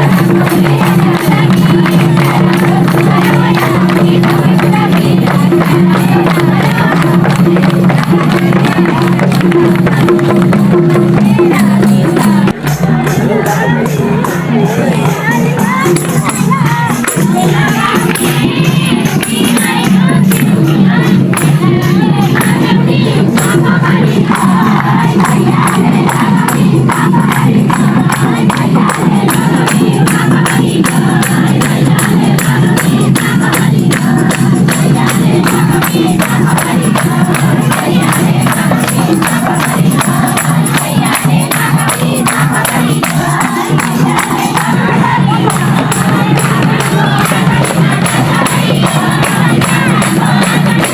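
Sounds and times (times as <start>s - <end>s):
crowd noise: 0.0s - 50.9s
driving percussion beat: 0.0s - 50.9s
group singing: 0.0s - 50.9s.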